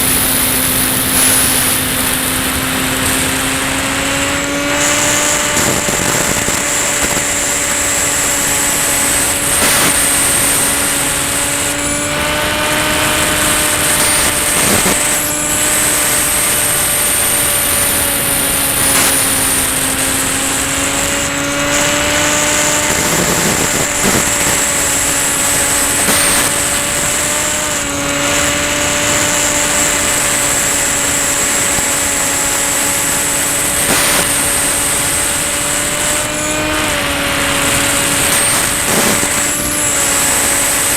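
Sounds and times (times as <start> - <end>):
electric motor and propeller running: 0.0 - 40.9
high whine: 0.0 - 40.9.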